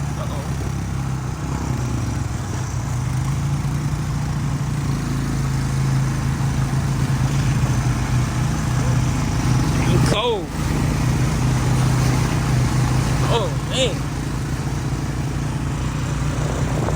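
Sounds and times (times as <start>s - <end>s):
atv engine running: 0.0s - 16.9s.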